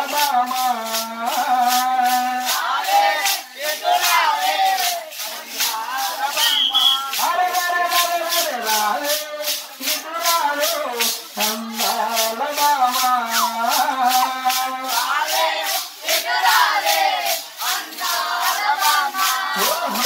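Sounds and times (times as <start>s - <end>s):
jingling hand percussion: 0.0s - 20.0s
person singing a melody: 0.0s - 20.0s.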